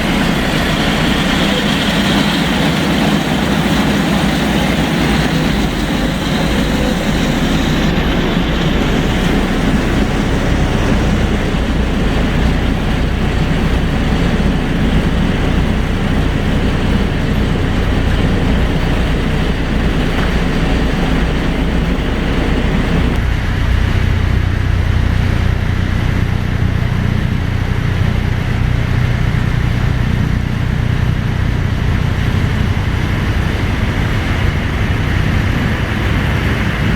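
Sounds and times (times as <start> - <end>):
heavy engine rumbling: 0.0 - 36.9.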